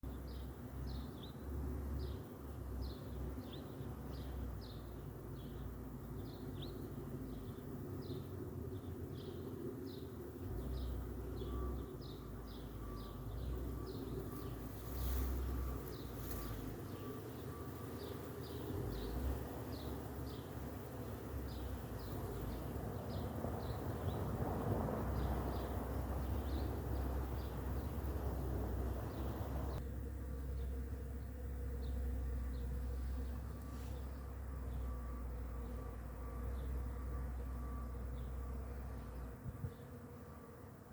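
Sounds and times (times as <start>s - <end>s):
bees buzzing: 0.8s - 40.9s.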